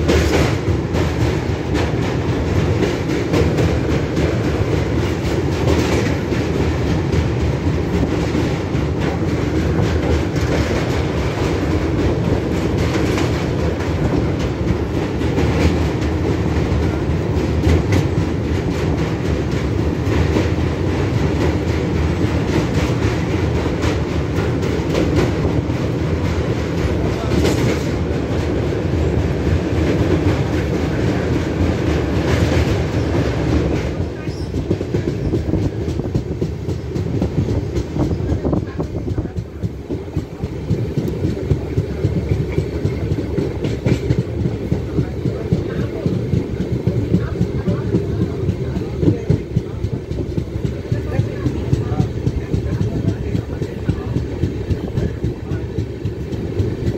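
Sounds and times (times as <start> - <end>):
train rumbling over bridge: 0.0 - 56.9
wheels clacking over rails: 0.0 - 56.9.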